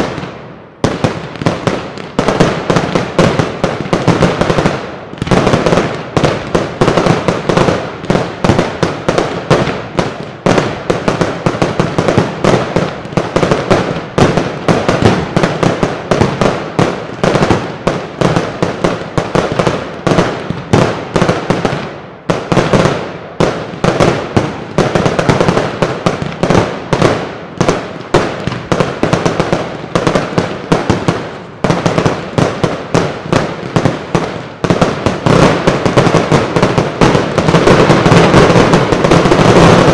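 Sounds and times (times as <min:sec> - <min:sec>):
firework bursts and bangs: 0:00.0 - 0:39.9.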